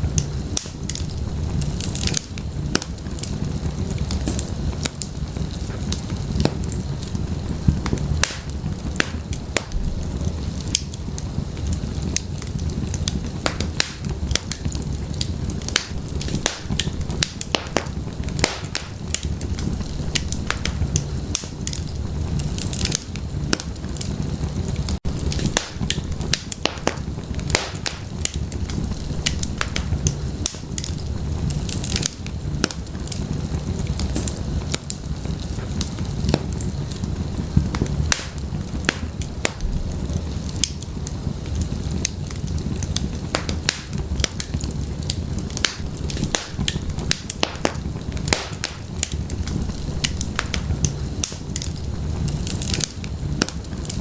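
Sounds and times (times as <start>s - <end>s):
firewood crackling and popping: 0.0s - 54.0s
low rumble of flames: 0.0s - 54.0s.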